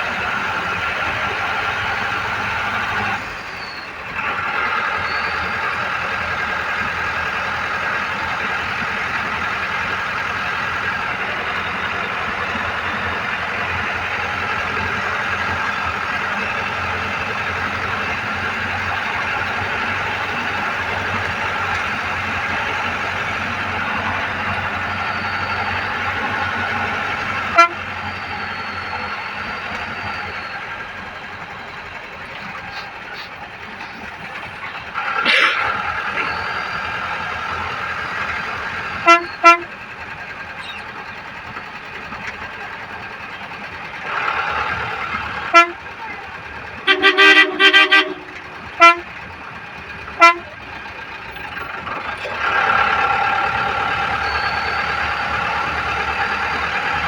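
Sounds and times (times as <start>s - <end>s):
vehicle running: 0.0s - 57.0s.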